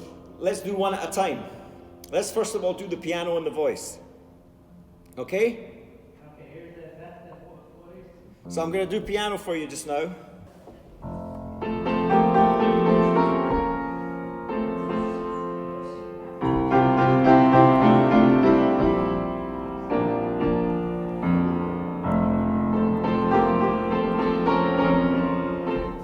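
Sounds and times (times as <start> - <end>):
piano playing slow chords: 0.0 - 6.8, 8.4 - 26.0.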